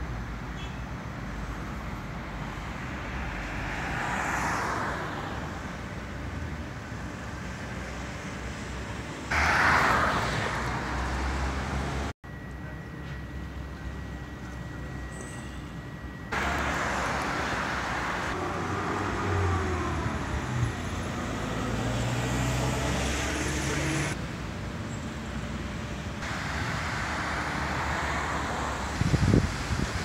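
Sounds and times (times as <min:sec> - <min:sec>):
road traffic noise: 0:00.0 - 0:30.0
vehicles passing: 0:00.0 - 0:30.0.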